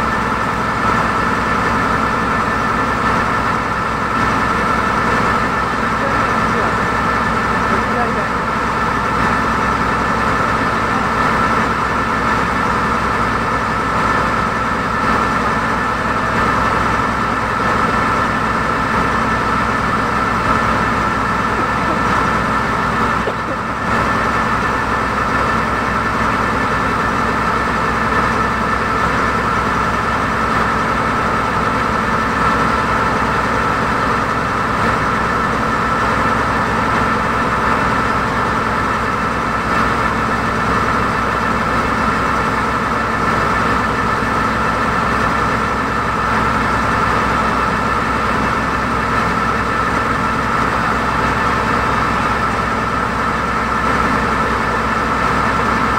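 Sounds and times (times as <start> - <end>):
boat engine drone: 0.0 - 55.9
steady engine whine: 0.0 - 55.9.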